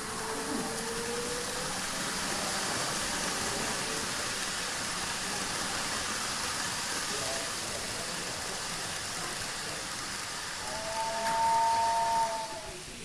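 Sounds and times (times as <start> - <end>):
model train whirring: 0.0 - 13.0.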